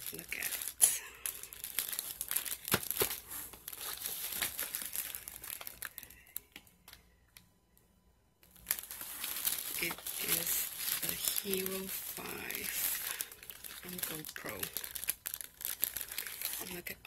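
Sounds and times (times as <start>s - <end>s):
plastic bag crinkling: 0.0s - 7.0s, 8.4s - 17.0s.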